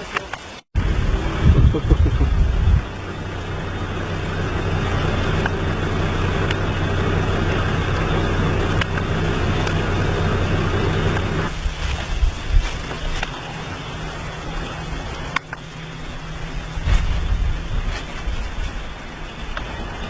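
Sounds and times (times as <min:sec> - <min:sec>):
motor drone: 0:00.8 - 0:20.0.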